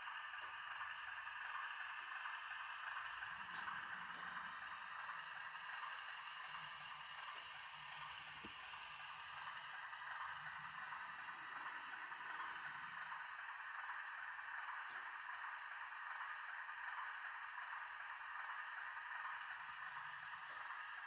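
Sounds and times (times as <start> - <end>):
diesel engine sound from small speaker: 0.0 - 21.0
model train motor: 0.0 - 21.0.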